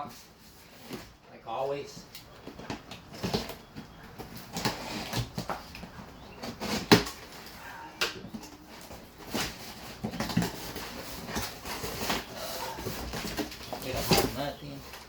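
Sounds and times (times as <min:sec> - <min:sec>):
cardboard boxes knocking and rustling: 0:02.0 - 0:15.0.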